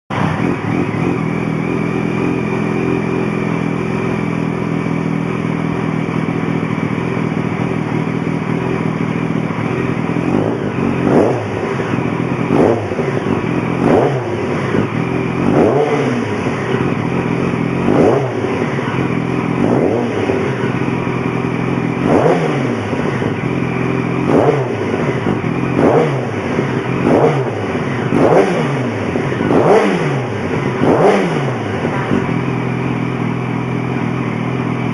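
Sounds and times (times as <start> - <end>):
motorcycle engine idling: 0.1 - 34.9
motorcycle engine revving: 0.1 - 34.9.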